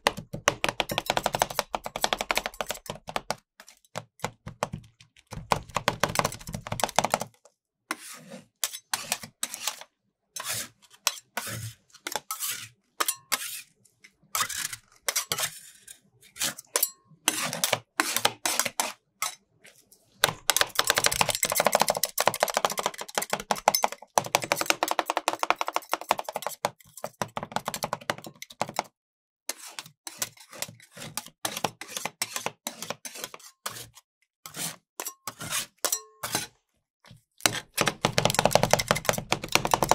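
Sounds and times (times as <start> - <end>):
metal spatulas chopping on plate: 0.0 - 7.3, 7.9 - 13.7, 14.4 - 15.8, 16.4 - 19.4, 20.2 - 28.9, 29.5 - 36.6, 37.4 - 39.9.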